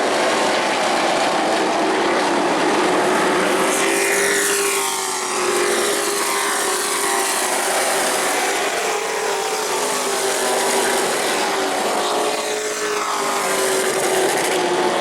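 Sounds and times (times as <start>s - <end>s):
race truck engines passing: 0.0s - 15.0s.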